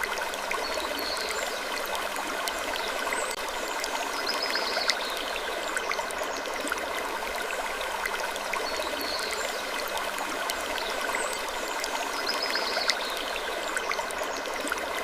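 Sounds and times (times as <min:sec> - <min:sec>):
running water stream: 0:00.0 - 0:15.0.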